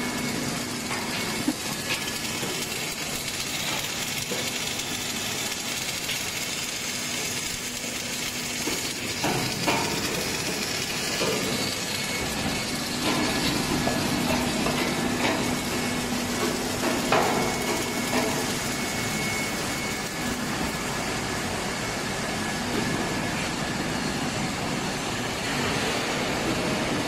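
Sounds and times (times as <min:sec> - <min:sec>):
welding torch hiss: 0:00.0 - 0:27.0.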